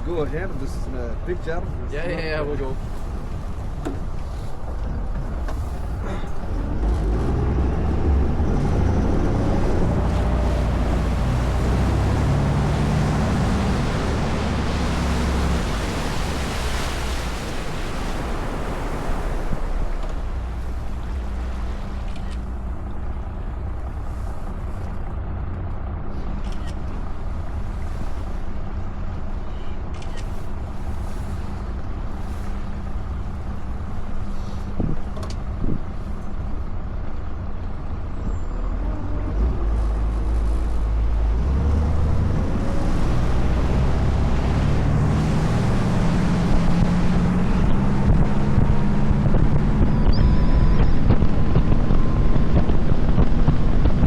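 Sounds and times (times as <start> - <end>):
boat engine running: 0.0 - 54.0
water noise: 0.0 - 54.0
wind: 0.0 - 54.0.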